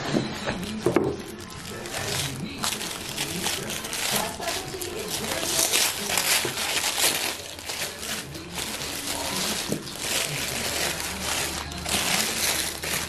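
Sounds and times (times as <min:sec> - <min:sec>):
paper wrapping crinkling: 0:00.0 - 0:13.0.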